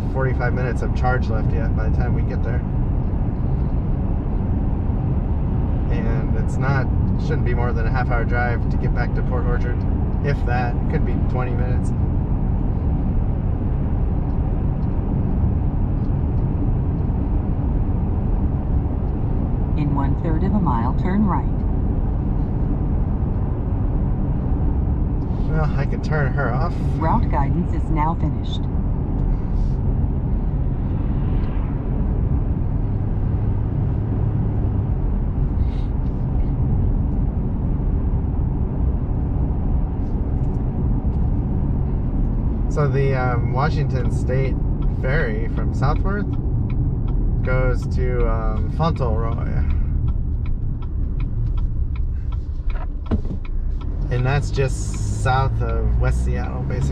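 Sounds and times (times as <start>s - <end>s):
truck cab road rumble: 0.0s - 56.9s.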